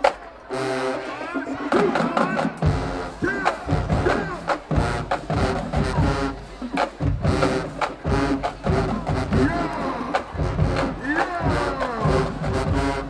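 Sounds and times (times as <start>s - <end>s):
drumline: 0.0s - 13.0s
marching band brass: 0.0s - 13.0s.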